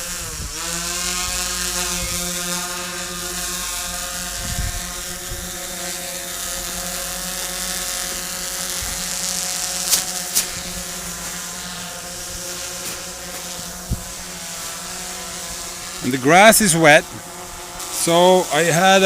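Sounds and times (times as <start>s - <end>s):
drone propellers droning: 0.0s - 19.0s.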